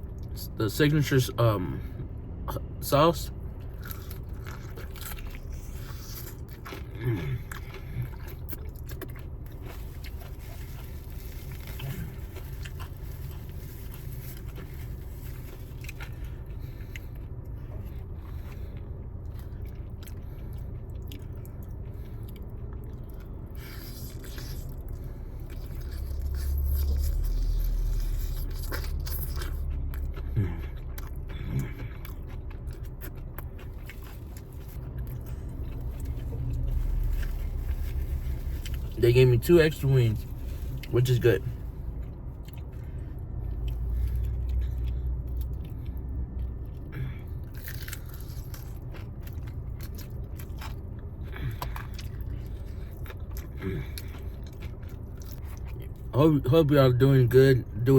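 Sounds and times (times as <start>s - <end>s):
steady low hum: 0.0s - 57.9s
deep rumble: 1.8s - 56.1s
chewing and biting food: 3.4s - 56.1s.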